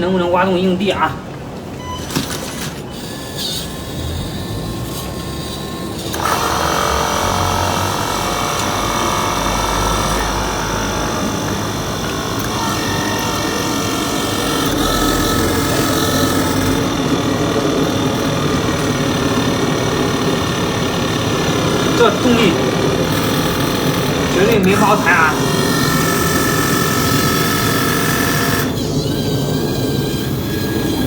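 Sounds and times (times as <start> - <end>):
excavator motor and hydraulics whining: 0.0 - 31.0.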